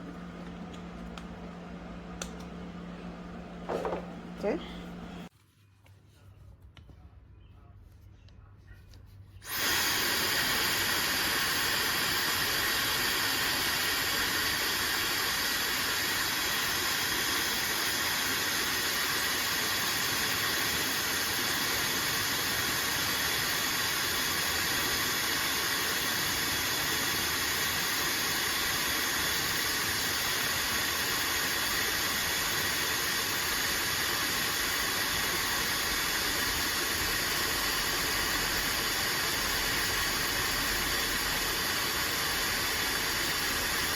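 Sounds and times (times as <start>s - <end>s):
hair dryer blowing air: 0.0s - 5.3s, 9.4s - 43.9s.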